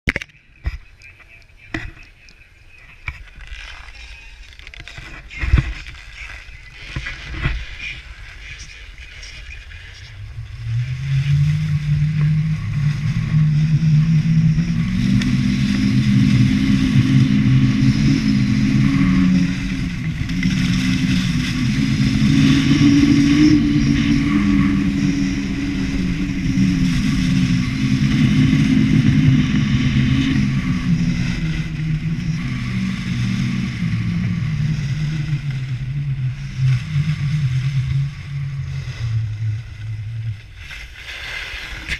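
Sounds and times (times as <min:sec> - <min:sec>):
skis scraping on snow: 0:02.3 - 0:41.9.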